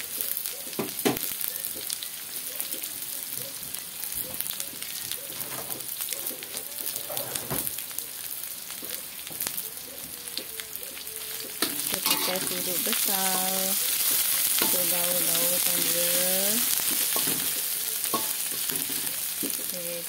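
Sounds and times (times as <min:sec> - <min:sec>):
aromatics sizzling in oil: 0:00.0 - 0:20.0.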